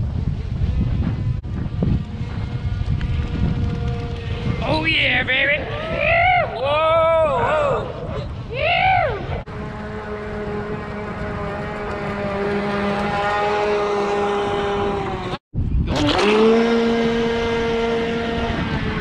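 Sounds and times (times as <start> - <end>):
rc boat motor whining: 0.1 - 6.1, 9.4 - 19.0.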